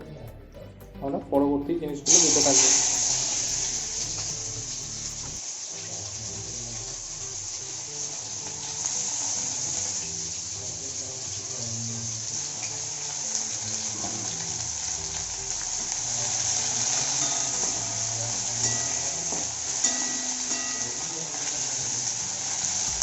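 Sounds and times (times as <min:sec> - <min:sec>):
onions sizzling in hot oil: 0:02.1 - 0:23.0.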